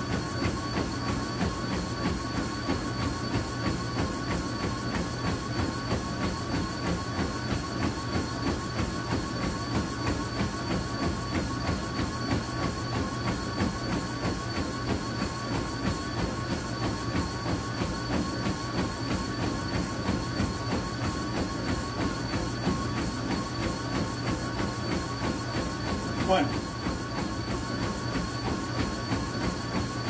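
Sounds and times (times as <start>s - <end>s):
treadmill motor whine and hum: 0.0s - 30.0s.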